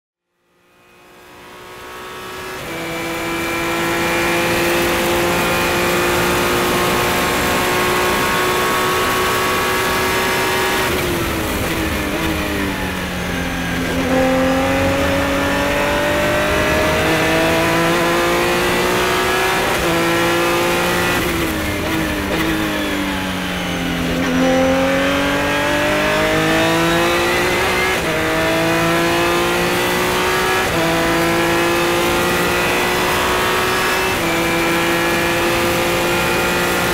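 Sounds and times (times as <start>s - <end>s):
race car engine at full throttle: 0.3s - 36.9s.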